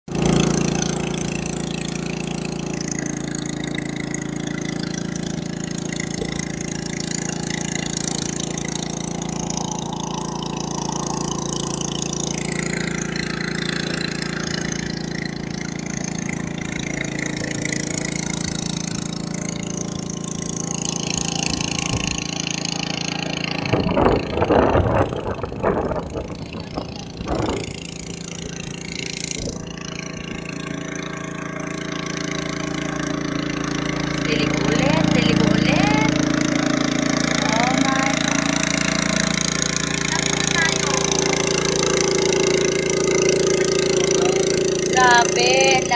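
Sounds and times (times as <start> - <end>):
small boat engine droning: 0.0 - 45.9
water and wind rush: 0.3 - 45.9.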